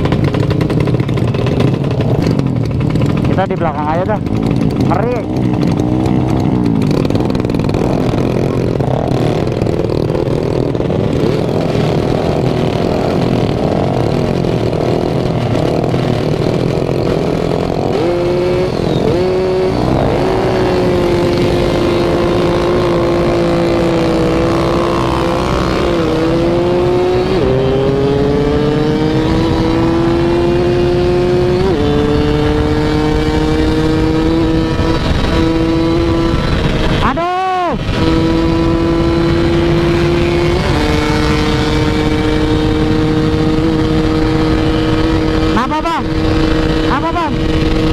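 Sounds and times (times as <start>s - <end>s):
motorcycle engines revving: 0.0s - 47.9s
motorcycle shifting through gears: 0.0s - 47.9s.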